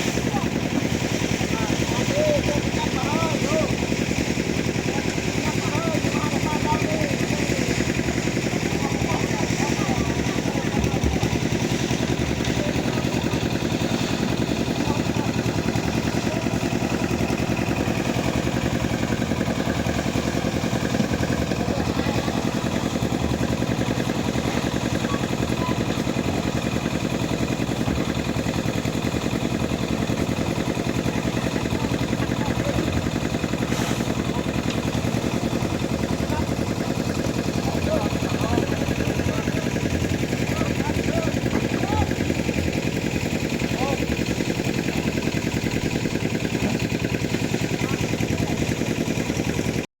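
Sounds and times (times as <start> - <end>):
small engine running: 0.0 - 49.9.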